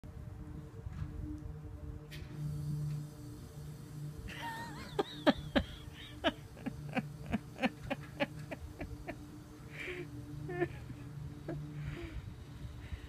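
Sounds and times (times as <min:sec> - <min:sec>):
air conditioner humming: 0:00.1 - 0:13.0.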